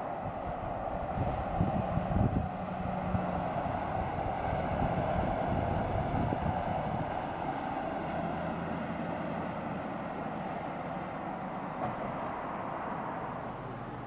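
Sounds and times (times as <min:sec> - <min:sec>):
vehicle engine and tyres on road: 0:00.0 - 0:14.0.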